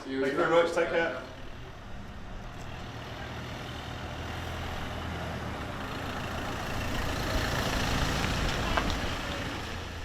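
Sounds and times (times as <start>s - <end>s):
vehicle engine running: 1.2s - 10.0s.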